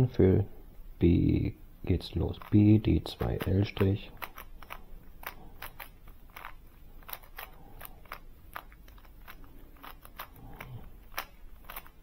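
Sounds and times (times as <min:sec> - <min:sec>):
puzzle cube plastic clicking: 0:02.2 - 0:12.0.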